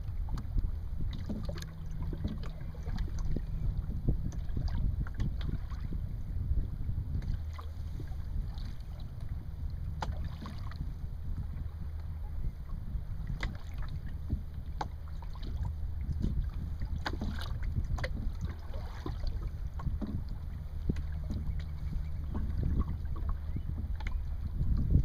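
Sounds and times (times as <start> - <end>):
water splashing against hull: 0.0 - 25.0
wind rumbling on microphone: 0.0 - 25.0.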